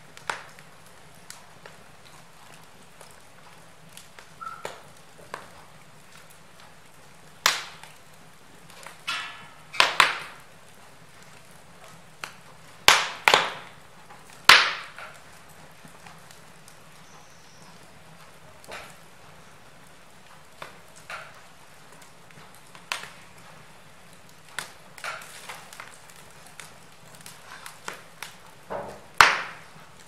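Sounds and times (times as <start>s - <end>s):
faint steady hiss: 0.0s - 30.0s
sharp pops from fire: 0.0s - 30.0s
wood fire crackling: 0.0s - 30.0s.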